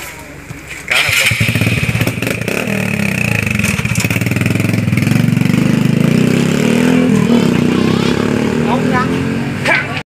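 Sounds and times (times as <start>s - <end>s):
motorcycle engine revving: 0.9s - 10.0s.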